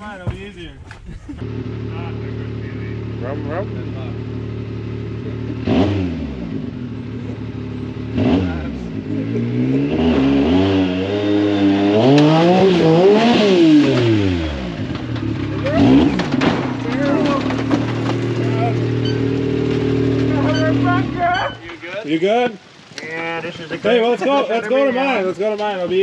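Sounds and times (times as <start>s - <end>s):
utility vehicle engine revving: 0.7s - 24.2s.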